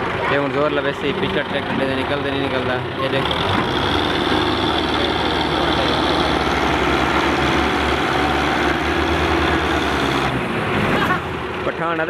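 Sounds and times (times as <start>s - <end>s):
tractor engine straining: 0.0s - 12.0s.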